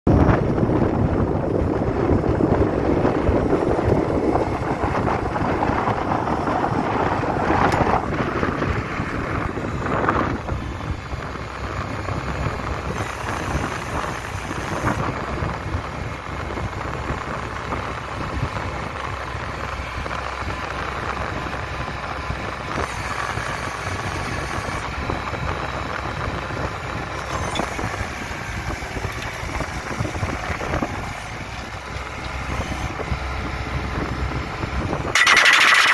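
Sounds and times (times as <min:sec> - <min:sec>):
machine engine running: 0:00.1 - 0:35.9.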